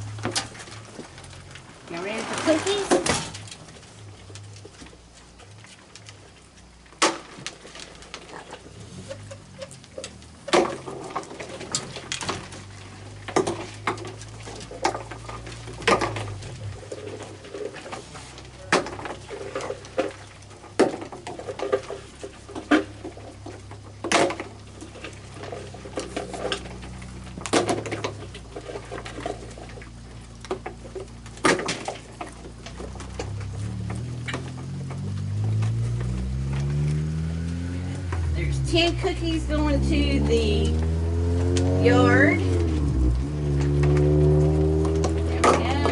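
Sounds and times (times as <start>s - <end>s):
clatter of hard objects: 0.0s - 39.6s, 42.4s - 45.9s
low steady hum: 0.0s - 45.9s.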